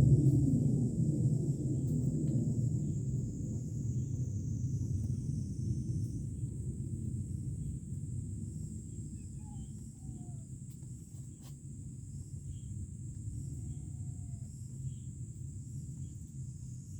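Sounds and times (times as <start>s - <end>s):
insects droning: 0.2s - 16.9s.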